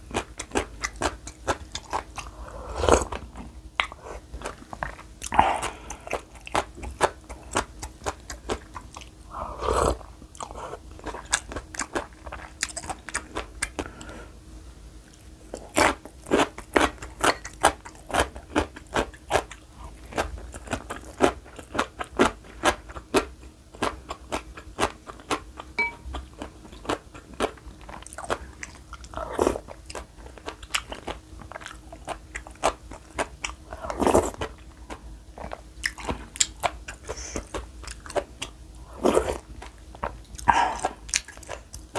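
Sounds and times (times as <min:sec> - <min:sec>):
close chewing with mouth clicks: 0:00.1 - 0:14.1, 0:15.0 - 0:41.9.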